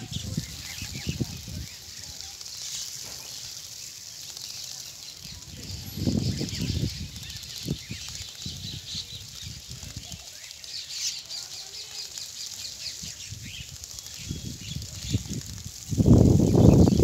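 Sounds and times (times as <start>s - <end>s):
soft wing flutters: 0.0s - 17.0s
sparrows chirping: 0.0s - 17.0s.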